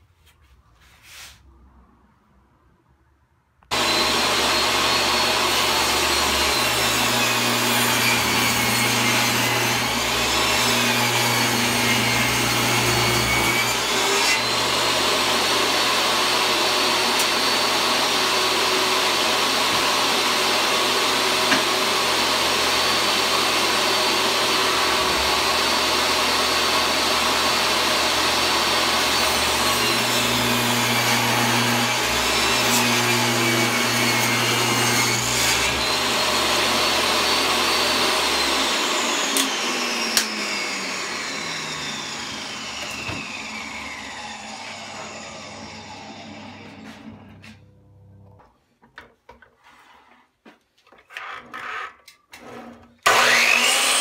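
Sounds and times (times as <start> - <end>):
table saw cutting wood: 3.7 - 47.6, 51.2 - 54.0.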